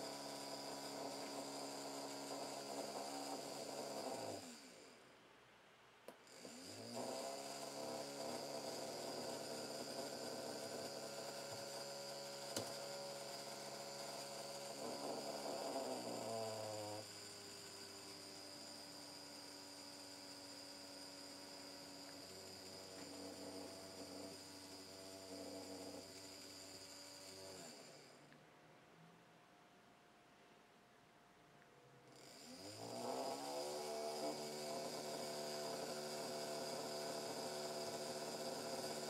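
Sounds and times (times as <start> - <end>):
small electric motor humming: 0.0 - 5.0, 6.1 - 28.4, 32.0 - 39.0.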